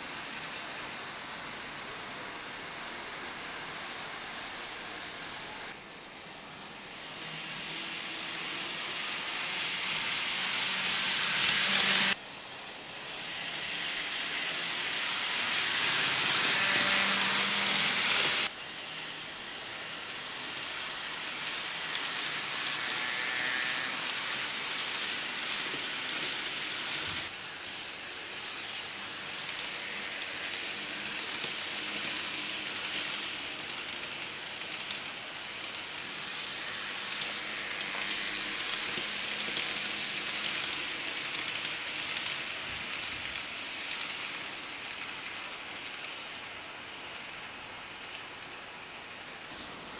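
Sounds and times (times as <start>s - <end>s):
model train running on track: 0.0s - 49.9s.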